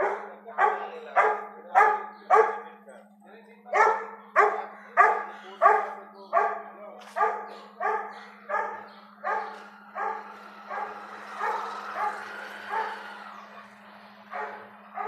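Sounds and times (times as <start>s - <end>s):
dog barking: 0.0s - 2.8s, 3.7s - 13.1s, 14.3s - 15.0s.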